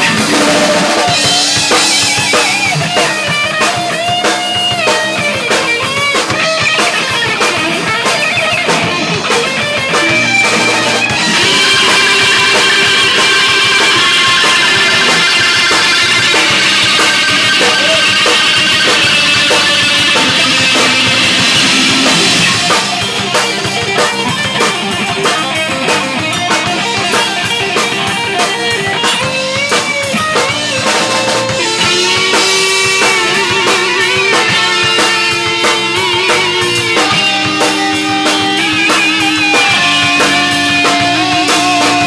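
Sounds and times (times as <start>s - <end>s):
rock band playing: 0.0s - 42.0s.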